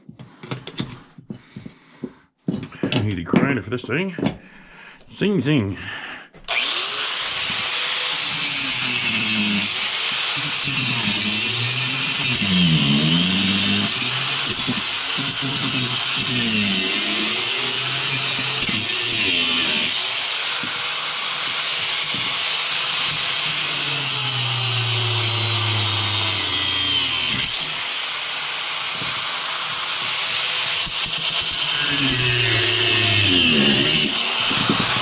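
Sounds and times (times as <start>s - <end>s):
angle grinder cutting metal: 6.5s - 35.0s.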